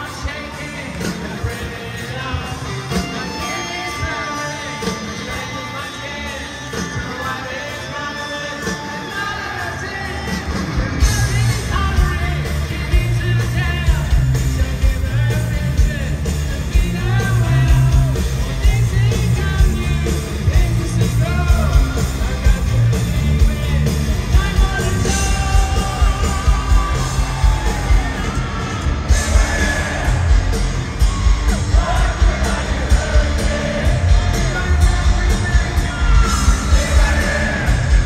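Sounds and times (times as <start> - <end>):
live hard rock band: 0.0 - 38.0
male lead singer: 0.0 - 38.0.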